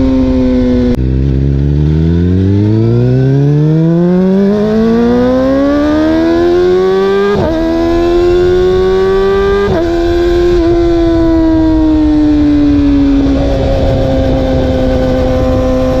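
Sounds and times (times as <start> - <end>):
sport bike engine accelerating: 0.0 - 16.0.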